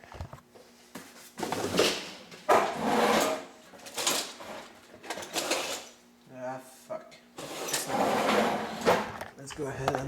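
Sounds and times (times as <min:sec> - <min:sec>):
objects scraping and rustling: 0:00.0 - 0:06.0, 0:07.4 - 0:10.0.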